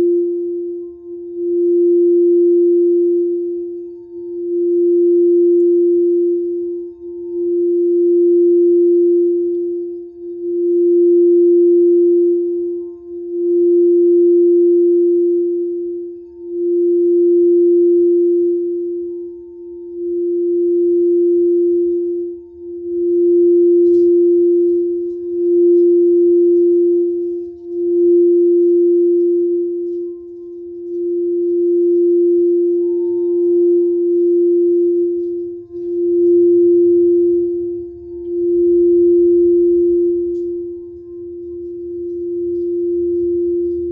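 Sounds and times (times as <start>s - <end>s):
singing bowl ringing: 0.0s - 43.9s.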